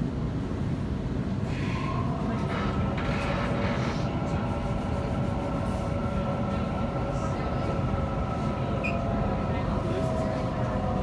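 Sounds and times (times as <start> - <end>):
train wheels rumbling: 1.1 - 11.0.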